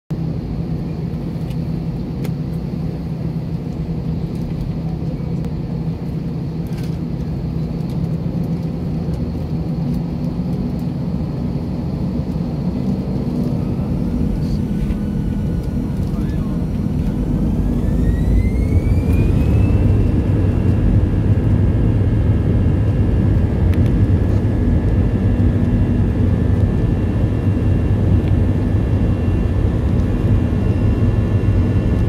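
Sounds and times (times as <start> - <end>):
airliner cabin drone: 0.1 - 32.0.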